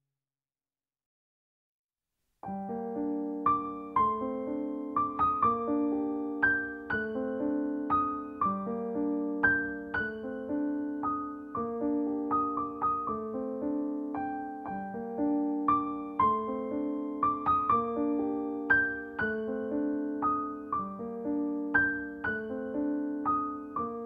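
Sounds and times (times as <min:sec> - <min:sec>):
slow piano melody: 0:02.4 - 0:24.0.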